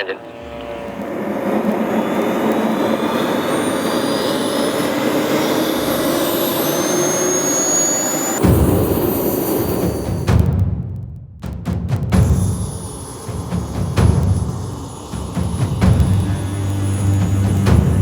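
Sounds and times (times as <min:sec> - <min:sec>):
jet turbine whine: 0:00.0 - 0:10.4, 0:12.2 - 0:18.0.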